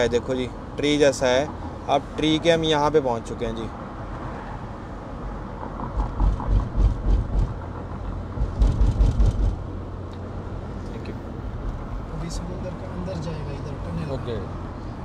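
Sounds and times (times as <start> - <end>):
car road rumble: 0.0 - 15.0.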